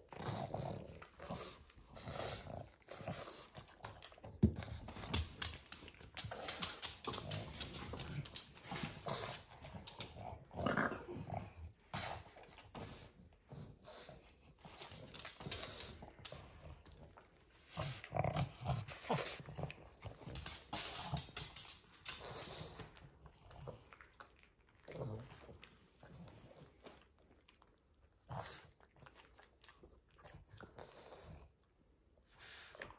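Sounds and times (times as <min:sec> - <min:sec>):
dogs chewing wetly: 0:00.0 - 0:32.9
dogs sniffing and snuffling: 0:00.0 - 0:32.9.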